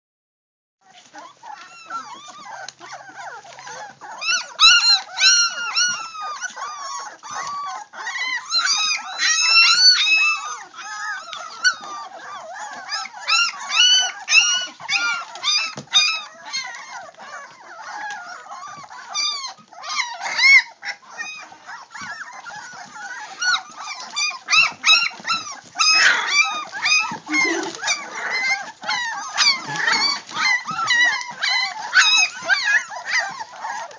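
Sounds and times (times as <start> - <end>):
puppies whining and yelping: 0.8 - 33.9.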